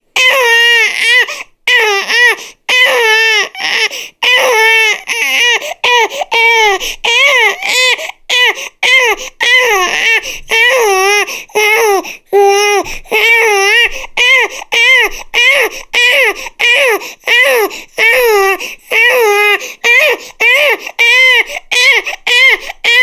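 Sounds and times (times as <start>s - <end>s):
baby crying: 0.2s - 23.0s.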